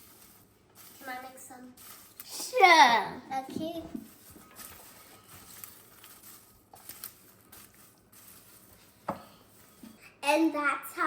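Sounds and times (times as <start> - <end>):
popcorn stirred with a spatula: 0.0 - 11.0.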